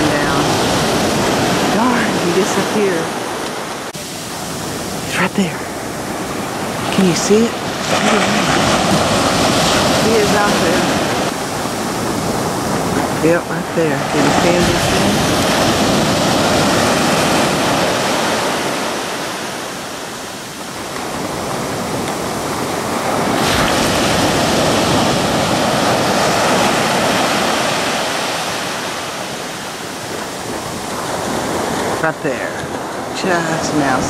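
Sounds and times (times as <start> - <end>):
small waves washing on a beach: 0.0 - 34.0.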